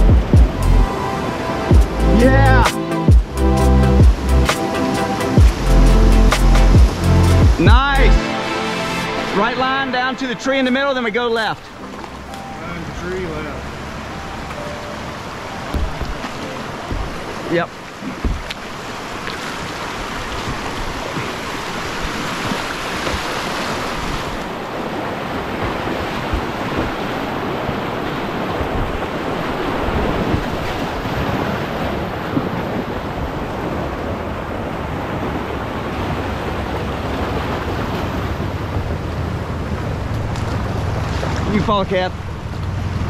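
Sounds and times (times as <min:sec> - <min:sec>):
whitewater rapids rushing: 0:00.0 - 0:43.0.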